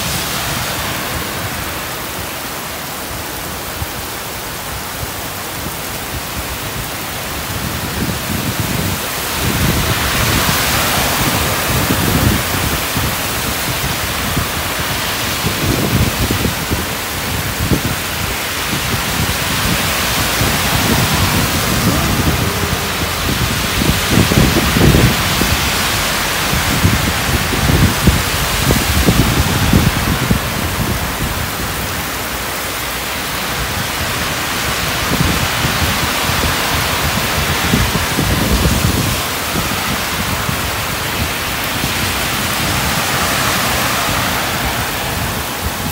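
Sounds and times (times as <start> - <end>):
cars hissing through water: 0.0 - 45.9
heavy rain pouring on road: 0.0 - 45.9
low rumbles: 4.6 - 45.9.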